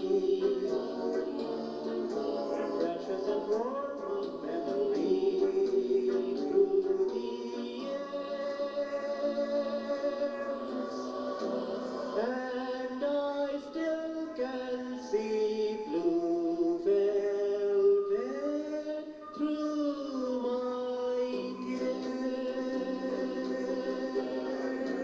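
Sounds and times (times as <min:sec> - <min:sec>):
song over small speaker: 0:00.0 - 0:25.0.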